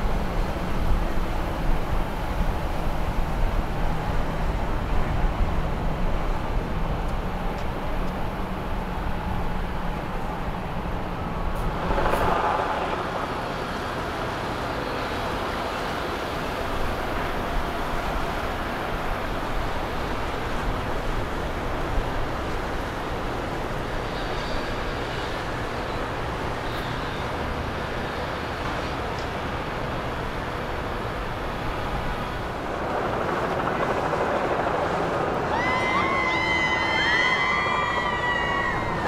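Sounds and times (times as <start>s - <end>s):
boat engines rumbling: 0.0s - 39.0s.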